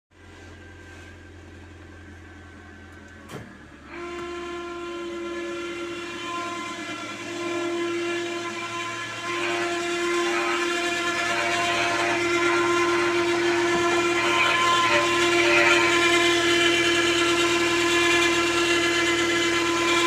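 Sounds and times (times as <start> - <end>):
air conditioning whistling whine: 0.2 - 20.0
low steady hum: 0.2 - 20.0.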